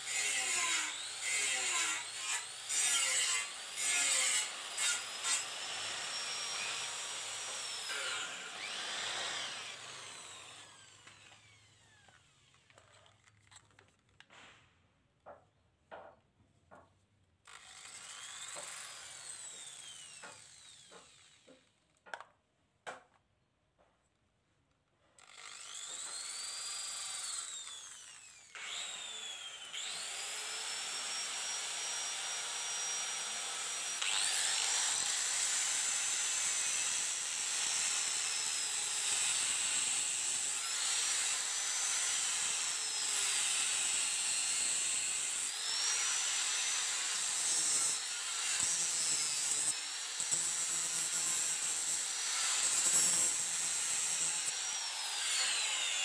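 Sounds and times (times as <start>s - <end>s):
electric drill whining: 0.0s - 13.6s, 17.5s - 21.7s, 25.2s - 56.0s.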